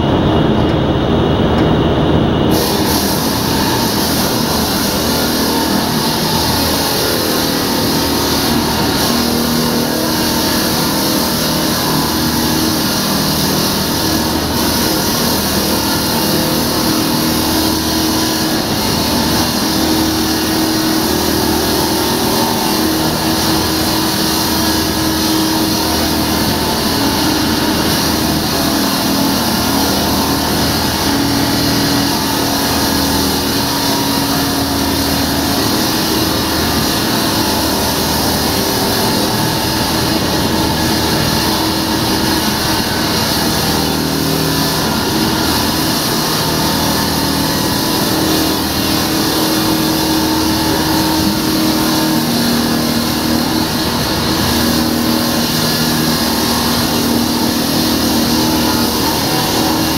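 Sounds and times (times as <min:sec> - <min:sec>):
concrete saw cutting concrete: 0:00.8 - 0:59.9.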